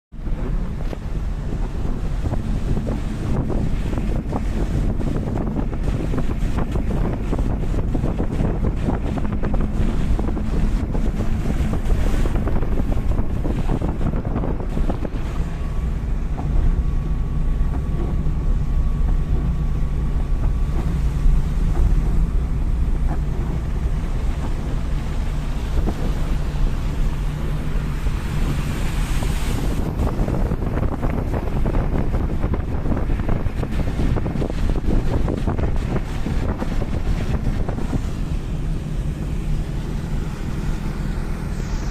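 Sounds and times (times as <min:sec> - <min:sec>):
deep rumble: 0:00.1 - 0:41.9.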